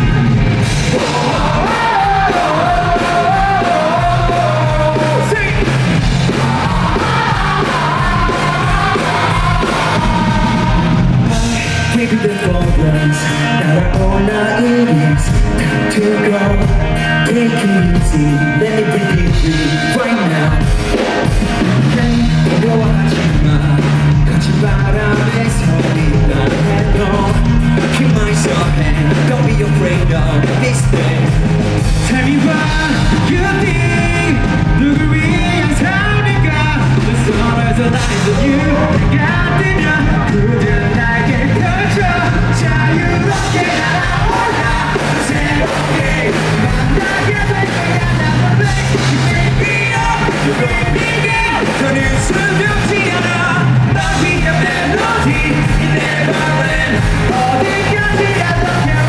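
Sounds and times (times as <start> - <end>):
man singing: 0.0 - 59.0
rock band playing: 0.0 - 59.0.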